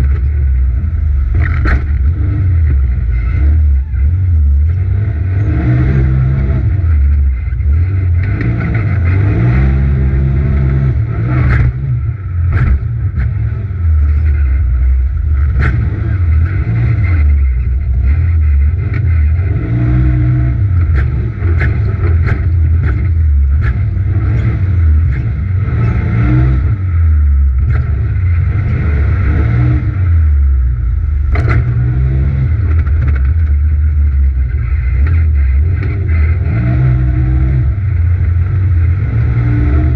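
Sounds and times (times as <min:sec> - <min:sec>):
chassis banging over bumps: 0:00.0 - 0:39.9
engine revving under hard throttle: 0:00.0 - 0:39.9.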